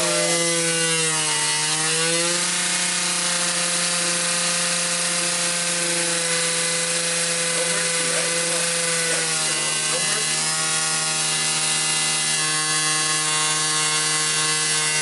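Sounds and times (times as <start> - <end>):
motor whine: 0.0 - 15.0.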